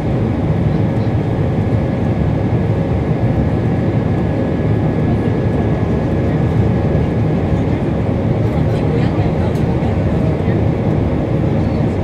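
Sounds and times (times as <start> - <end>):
faint engine whine: 0.0 - 12.0
jet engine rumble in cabin: 0.0 - 12.0.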